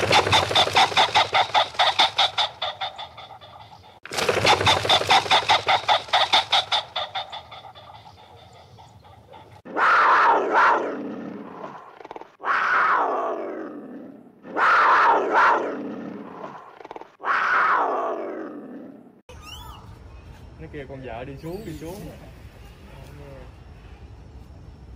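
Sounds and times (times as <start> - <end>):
animal calling: 0.0 - 20.0.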